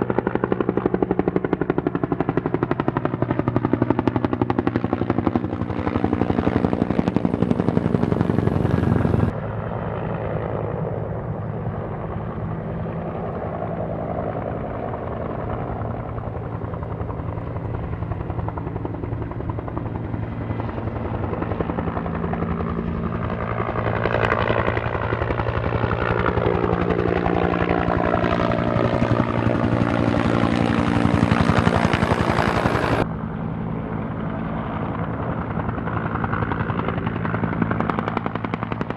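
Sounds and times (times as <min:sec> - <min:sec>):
helicopter rotor chop: 0:00.0 - 0:11.1, 0:13.0 - 0:38.9.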